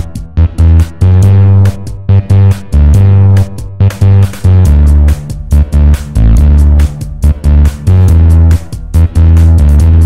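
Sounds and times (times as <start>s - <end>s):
music with pulsing bass and beat: 0.0s - 10.0s.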